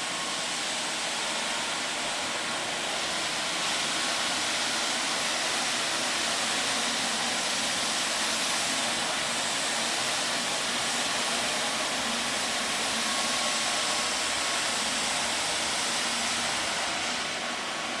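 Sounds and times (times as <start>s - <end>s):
floor scrubber rushing hiss: 0.0s - 18.0s.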